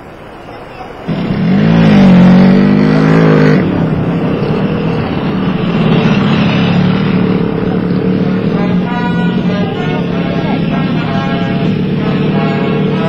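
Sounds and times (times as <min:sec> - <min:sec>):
motocross engines racing: 0:00.8 - 0:13.0.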